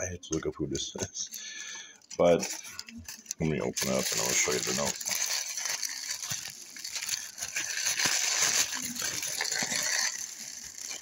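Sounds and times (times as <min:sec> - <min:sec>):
paper wrapping rustling: 0:00.0 - 0:11.0.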